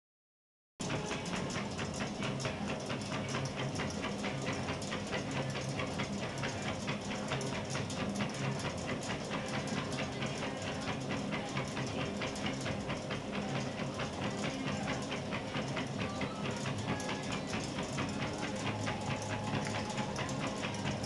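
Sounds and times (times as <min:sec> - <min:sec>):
treadmill humming: 0:00.8 - 0:21.0
dog paws clattering on belt: 0:01.0 - 0:21.0.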